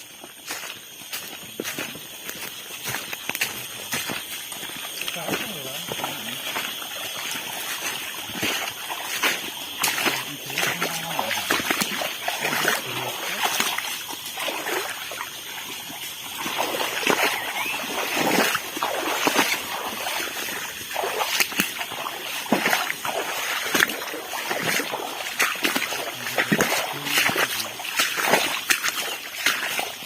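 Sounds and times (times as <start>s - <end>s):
splashing in shallow water: 0.0s - 30.0s.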